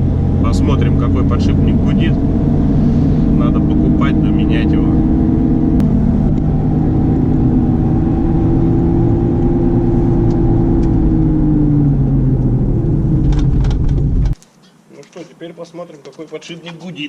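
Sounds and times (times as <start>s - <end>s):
road rumble in car cabin: 0.0s - 14.4s
wheel bearing droning hum: 0.0s - 14.4s.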